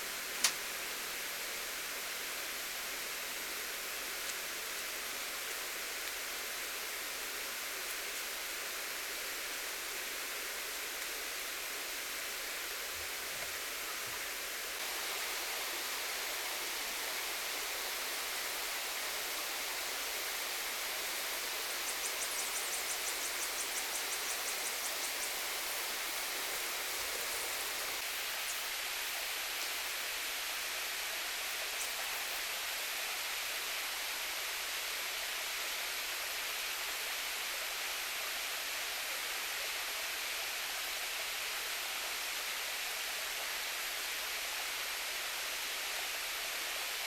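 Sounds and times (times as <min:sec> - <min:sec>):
steady rushing hiss: 0:00.0 - 0:47.0.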